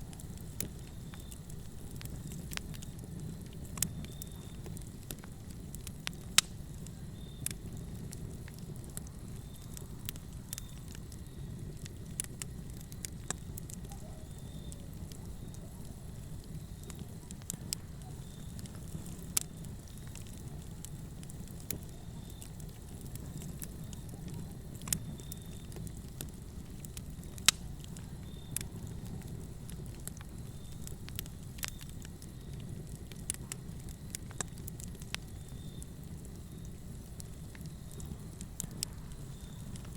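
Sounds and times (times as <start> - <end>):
fire crackling in a fireplace: 0.0 - 39.9
fire popping and snapping: 0.0 - 39.9.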